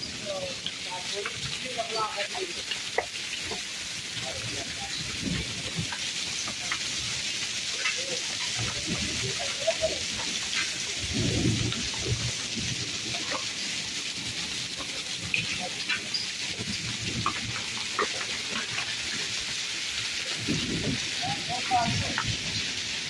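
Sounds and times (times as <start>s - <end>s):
heavy rain and hail on concrete: 0.0s - 23.0s.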